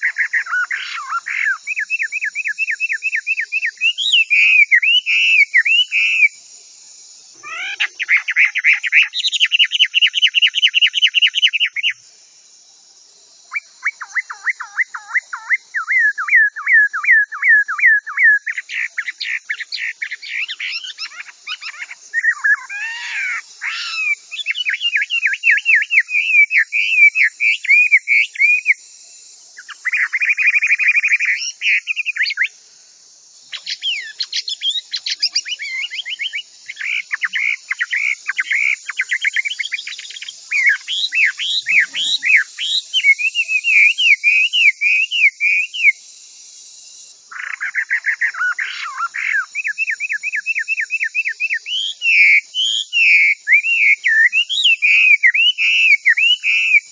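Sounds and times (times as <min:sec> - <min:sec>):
bird singing: 0:00.0 - 0:06.6, 0:07.2 - 0:12.1, 0:13.4 - 0:32.6, 0:33.3 - 0:46.0, 0:46.7 - 0:56.9.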